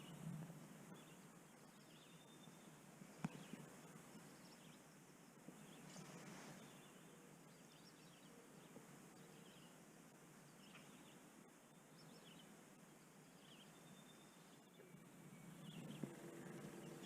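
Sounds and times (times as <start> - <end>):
faint bird chirps: 0.0 - 17.0
low steady hiss: 0.0 - 17.0.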